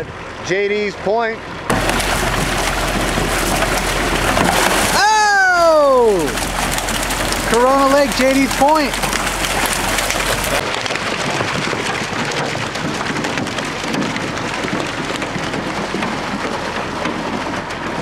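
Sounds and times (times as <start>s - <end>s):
water rushing and splashing: 1.7s - 17.1s.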